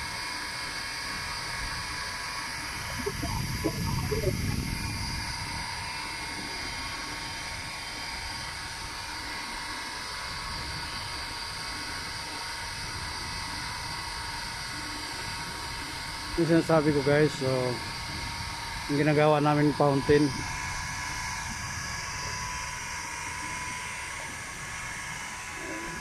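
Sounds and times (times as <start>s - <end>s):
fountain mechanical whine: 0.0s - 26.0s.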